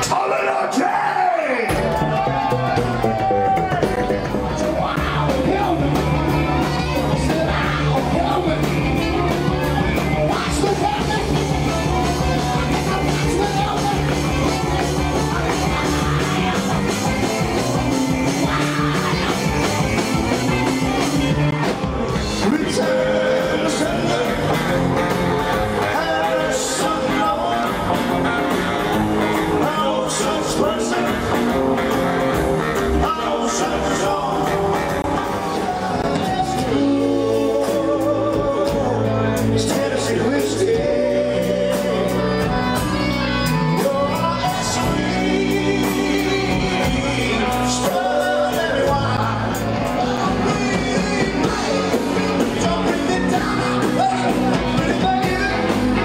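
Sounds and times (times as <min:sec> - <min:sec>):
person singing: 0:00.0 - 0:56.0
rock band playing: 0:00.0 - 0:56.0.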